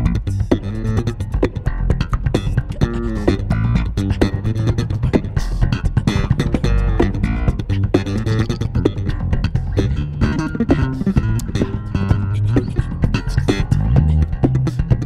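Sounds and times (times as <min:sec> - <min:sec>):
electric bass duet: 0:00.0 - 0:15.0.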